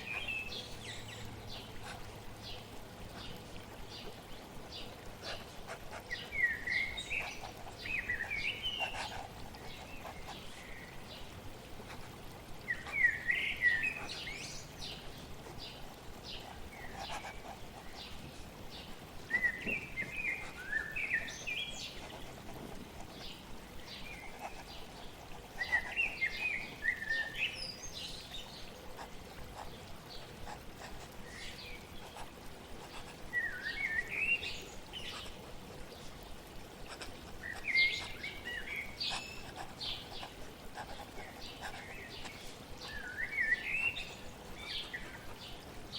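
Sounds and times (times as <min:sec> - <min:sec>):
songbird chirping: 0:00.0 - 0:11.3, 0:12.6 - 0:32.2, 0:32.8 - 0:45.9
flowing water hiss: 0:00.0 - 0:45.9.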